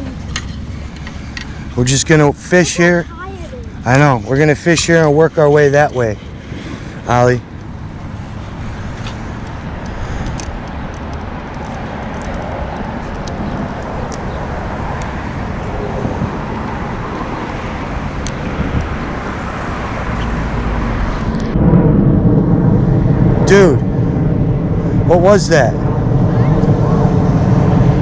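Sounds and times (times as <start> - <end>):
rushing outdoor noise: 0.0 - 28.0.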